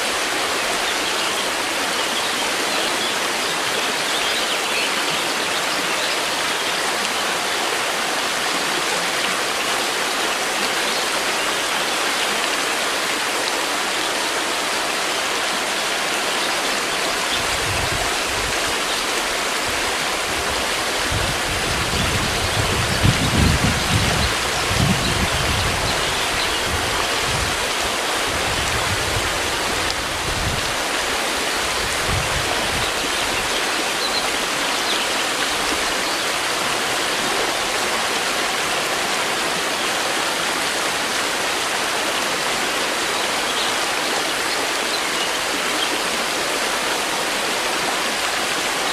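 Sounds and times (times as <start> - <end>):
river water rushing over rocks: 0.0 - 48.9.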